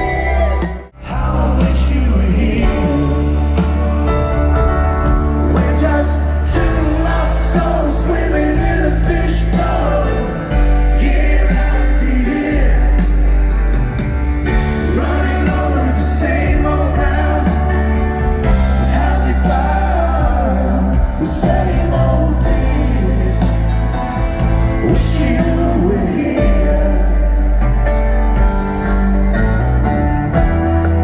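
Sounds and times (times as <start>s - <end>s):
person singing: 0.0s - 13.6s, 14.5s - 27.9s
steady bass line: 0.0s - 31.0s.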